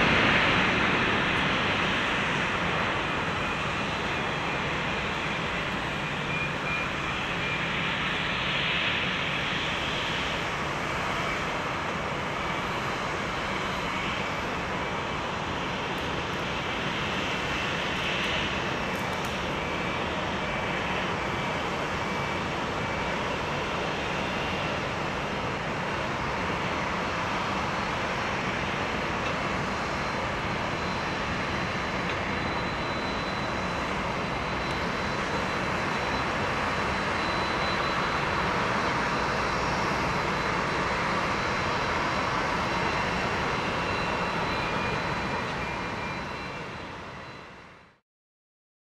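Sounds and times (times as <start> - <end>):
jet engines running at low power: 0.0 - 48.0.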